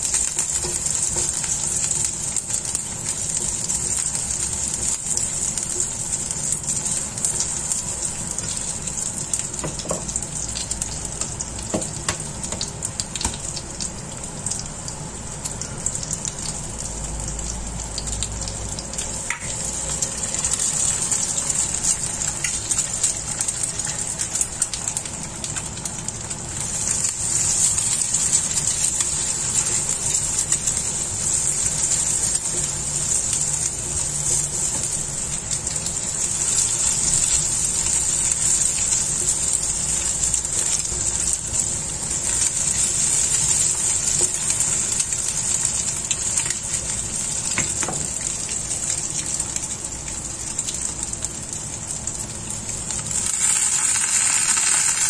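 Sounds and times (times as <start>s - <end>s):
egg sizzling in oil: 0.0s - 55.0s.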